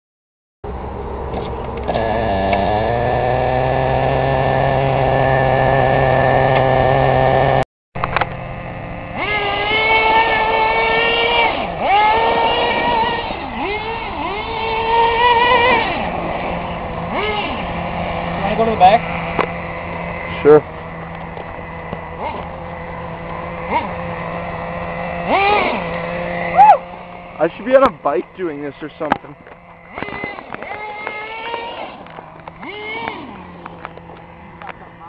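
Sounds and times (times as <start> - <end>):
small glow engine revving: 1.3 - 35.0.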